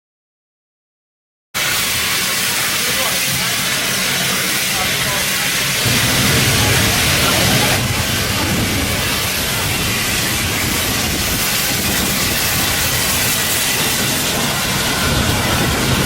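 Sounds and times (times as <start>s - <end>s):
steam locomotive hissing: 1.6s - 16.0s.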